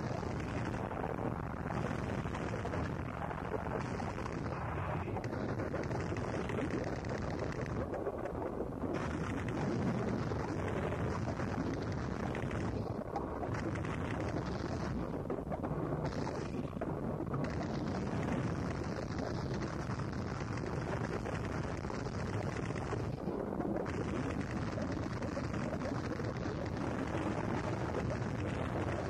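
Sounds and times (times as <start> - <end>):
harsh distorted noise: 0.0 - 29.0.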